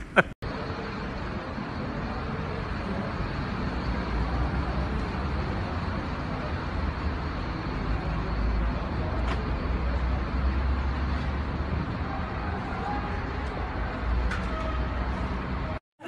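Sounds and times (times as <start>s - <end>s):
vehicles driving by: 0.0s - 15.8s.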